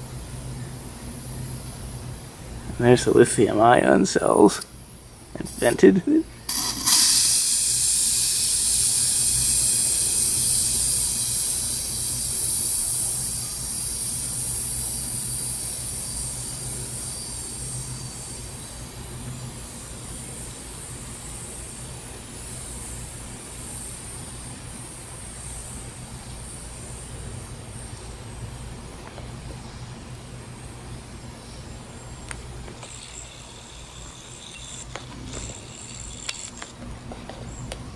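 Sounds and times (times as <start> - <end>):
battery cells venting gas hiss: 0.0 - 37.9
steady low hum: 0.0 - 37.9.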